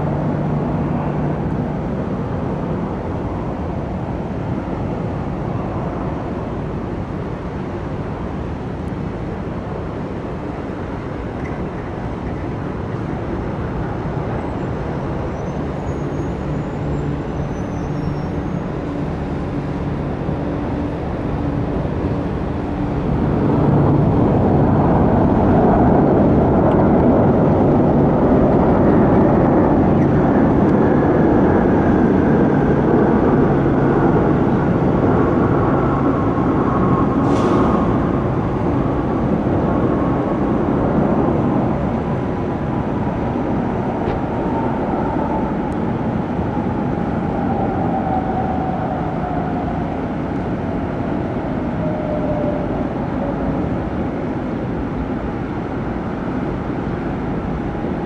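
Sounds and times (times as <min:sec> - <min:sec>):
jet airliner engines rumbling: 0:00.0 - 0:58.0.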